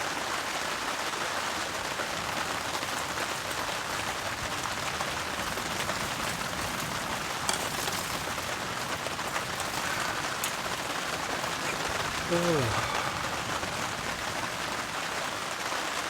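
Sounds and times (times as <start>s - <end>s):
heavy rain on a tarp: 0.0s - 16.0s.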